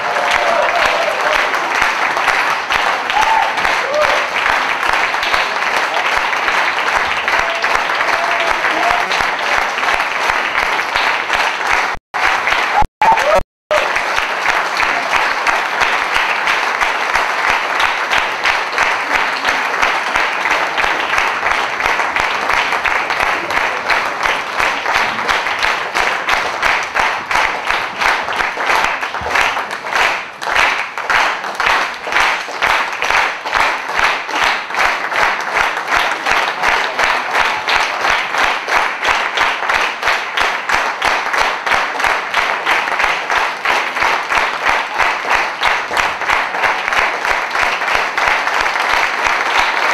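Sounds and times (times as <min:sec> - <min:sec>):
audience applauding: 0:00.0 - 0:49.9
rhythmic clapping in unison: 0:00.0 - 0:49.9.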